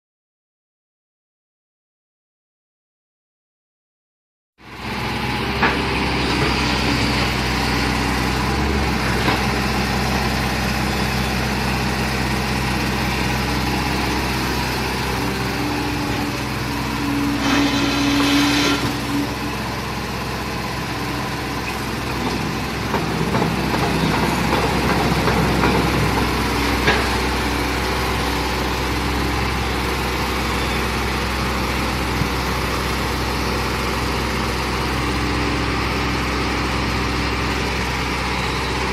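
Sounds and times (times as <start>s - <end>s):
engine whine: 4.6s - 38.9s
excavator diesel engine running: 4.6s - 38.9s.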